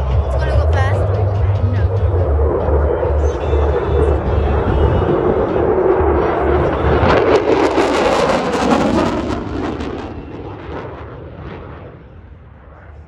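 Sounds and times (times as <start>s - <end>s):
jet engines roaring past: 0.0s - 13.0s.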